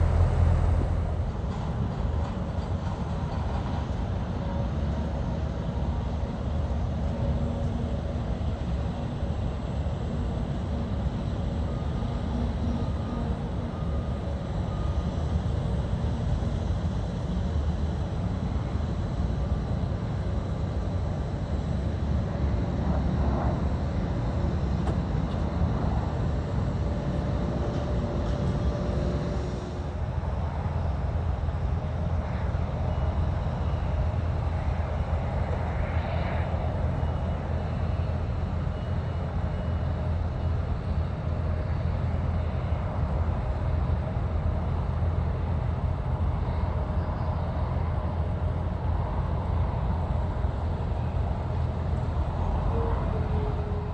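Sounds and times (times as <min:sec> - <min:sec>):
faint whining tones: 0:00.0 - 0:53.9
jet engines low rumble: 0:00.0 - 0:53.9.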